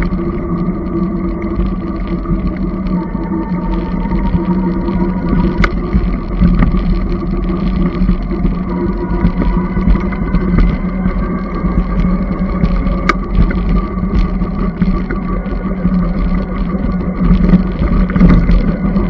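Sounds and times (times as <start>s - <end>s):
road rumble: 0.0s - 19.0s
steady hum: 0.0s - 19.0s
wind on microphone: 0.0s - 19.0s.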